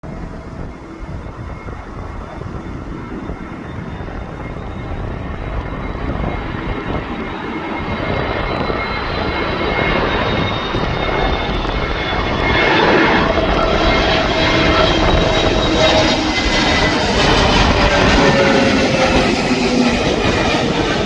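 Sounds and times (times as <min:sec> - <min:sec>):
jet engines with whining tones: 0:00.0 - 0:21.0.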